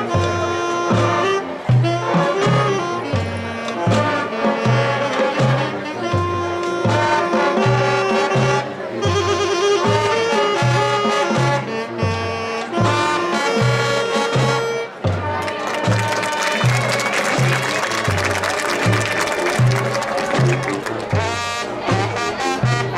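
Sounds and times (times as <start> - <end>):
marching band playing: 0.0 - 22.9
sustained horn notes: 0.0 - 22.9.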